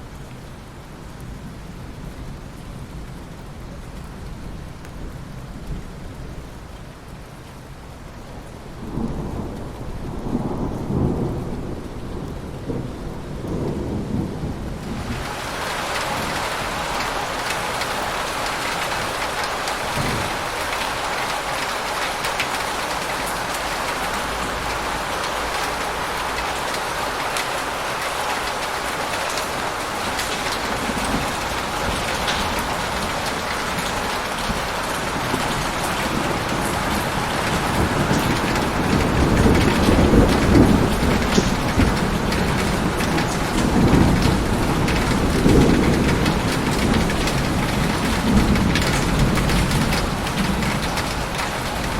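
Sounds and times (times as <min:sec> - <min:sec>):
heavy rain pouring: 0:00.0 - 0:51.9
thunder rumbling: 0:08.8 - 0:51.9.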